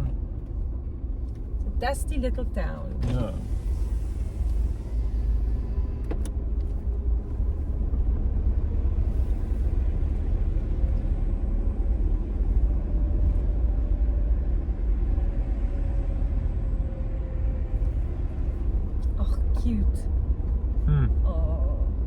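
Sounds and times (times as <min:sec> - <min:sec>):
vehicle rumble from inside cabin: 0:00.0 - 0:22.0.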